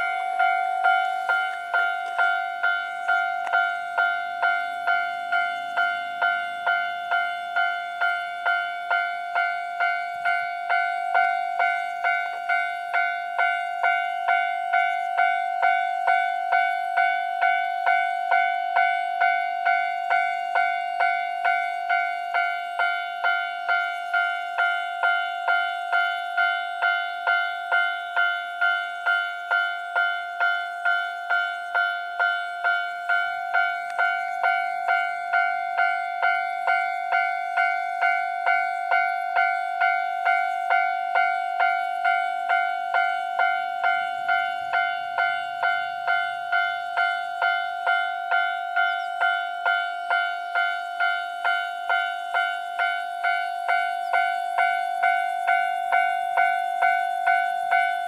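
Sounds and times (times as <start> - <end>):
level crossing bell ringing: 0.0 - 58.0.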